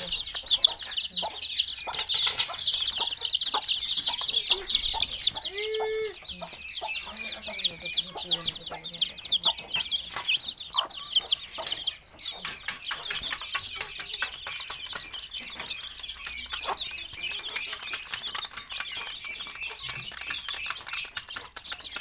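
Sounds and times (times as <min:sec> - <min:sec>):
beaks pecking a metal tray: 0:00.0 - 0:22.0
chicks peeping: 0:00.0 - 0:22.0.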